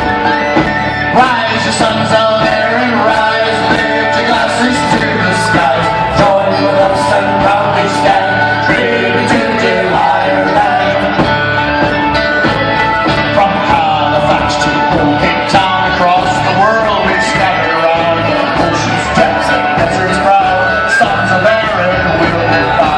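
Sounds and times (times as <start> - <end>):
folk band playing: 0.0 - 22.9
person singing: 0.0 - 22.9.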